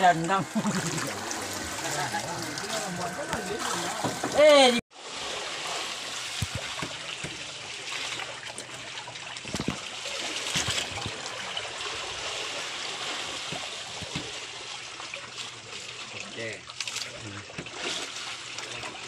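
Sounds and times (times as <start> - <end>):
water lapping against boat: 0.0 - 19.0.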